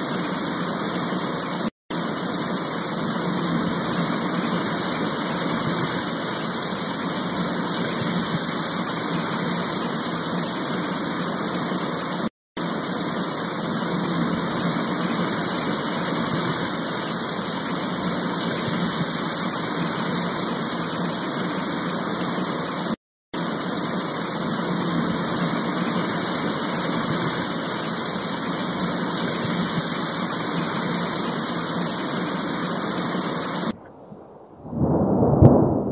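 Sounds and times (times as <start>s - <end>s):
heavy rain: 0.0s - 33.8s
running floodwater: 0.0s - 34.1s.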